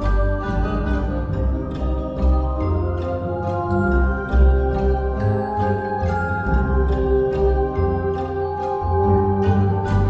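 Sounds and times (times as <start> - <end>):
horror background music: 0.0 - 10.0.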